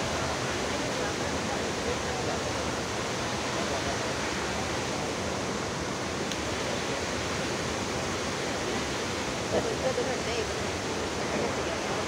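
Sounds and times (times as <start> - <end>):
waterfall rushing onto rocks: 0.0 - 12.0.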